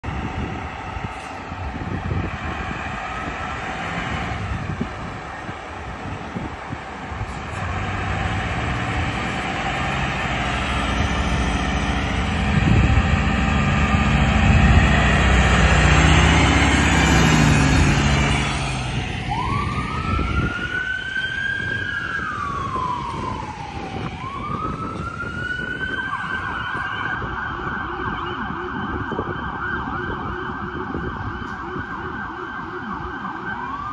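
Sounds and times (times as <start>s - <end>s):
fire engine diesel engine: 0.0s - 33.9s
siren wailing: 1.7s - 33.9s.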